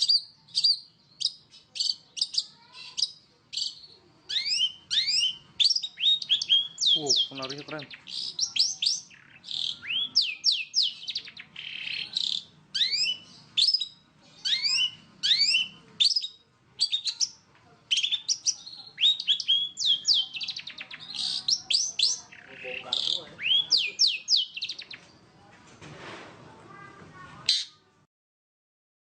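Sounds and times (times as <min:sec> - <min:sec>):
shrike singing whistles and chirps: 0:00.0 - 0:25.0.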